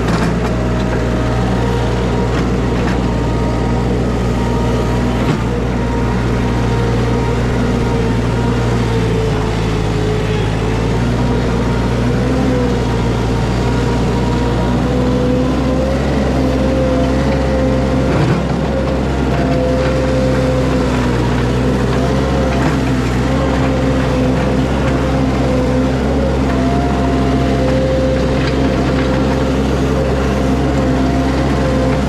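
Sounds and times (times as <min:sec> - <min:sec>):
loader engine running: 0:00.0 - 0:32.0.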